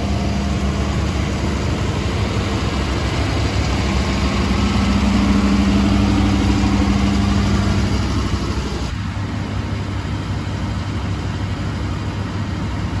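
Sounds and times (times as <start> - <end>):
engine idling: 0.0 - 13.0
steady hum: 0.0 - 13.0.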